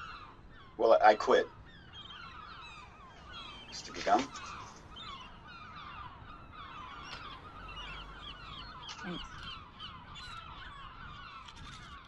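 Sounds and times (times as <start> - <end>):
flock of birds calling: 0.0 - 12.0
lower falling bird call: 0.0 - 12.0.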